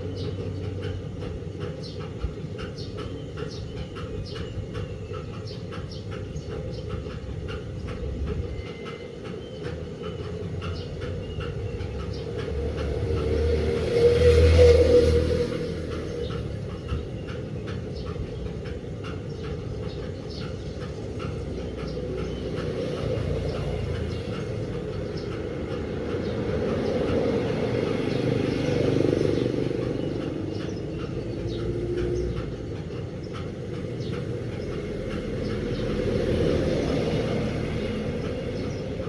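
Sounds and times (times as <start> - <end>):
washing machine rumbling: 0.0 - 39.0.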